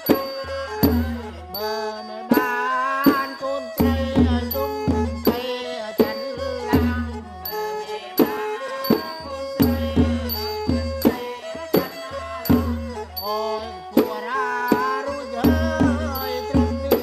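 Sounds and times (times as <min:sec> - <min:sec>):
fiddle playing sliding melody: 0:00.0 - 0:17.0
hand drums: 0:00.0 - 0:17.0
reed pipe melody: 0:00.0 - 0:17.0
small cymbals: 0:00.0 - 0:17.0.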